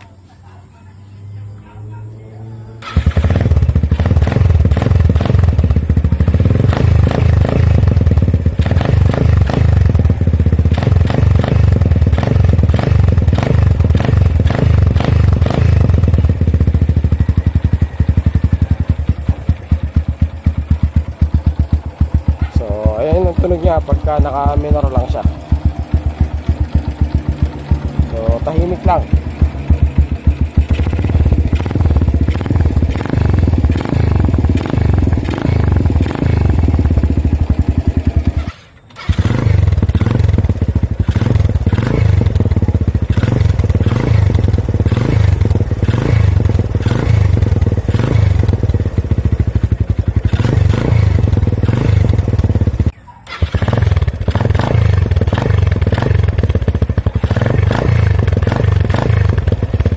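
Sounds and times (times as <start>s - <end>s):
motorcycle exhaust pulsing: 1.6s - 59.9s.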